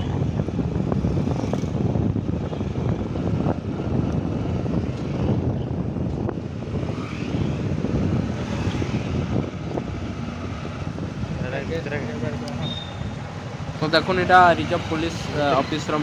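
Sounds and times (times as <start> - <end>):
motorbikes nearby: 0.0 - 16.0
vehicle engine and road noise: 0.0 - 16.0.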